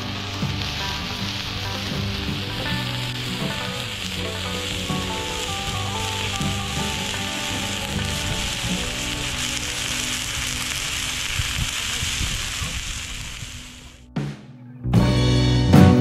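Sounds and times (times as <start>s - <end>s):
background music melody: 0.0s - 12.2s, 13.6s - 16.0s
steady hissing noise: 0.0s - 14.1s.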